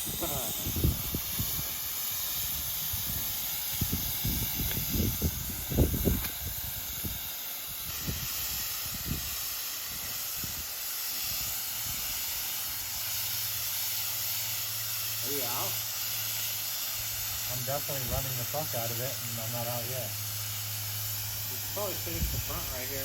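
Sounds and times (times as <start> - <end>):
paint spray hissing: 0.0 - 23.0.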